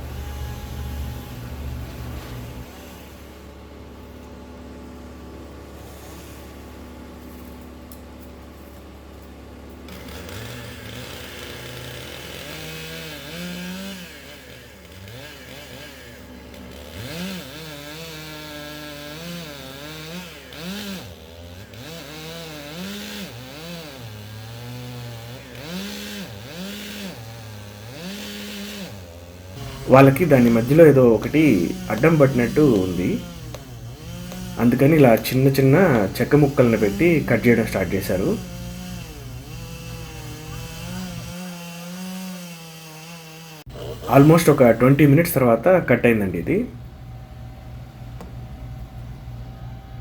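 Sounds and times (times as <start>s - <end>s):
steady engine hum: 0.0s - 42.0s, 43.6s - 50.0s
chainsaw cutting tree trunk: 0.0s - 46.7s.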